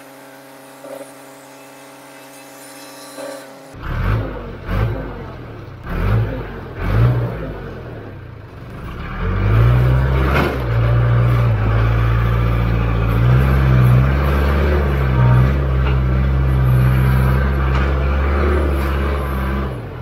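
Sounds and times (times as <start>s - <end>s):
diesel engine revving: 3.7s - 20.0s.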